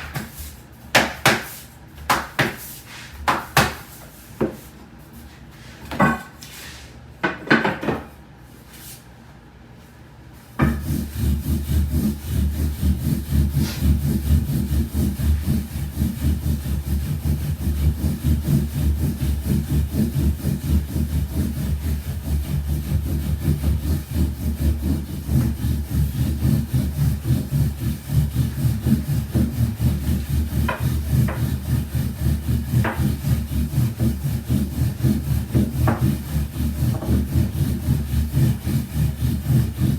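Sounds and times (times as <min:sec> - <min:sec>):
rolling pin rubbing on dough: 0:00.0 - 0:06.9, 0:10.4 - 0:39.9.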